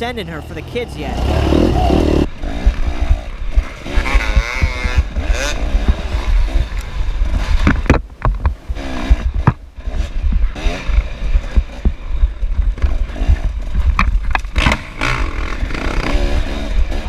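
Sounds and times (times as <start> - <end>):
low thumps and buffeting: 0.0 - 15.8
dirt bike engine revving: 0.0 - 17.0.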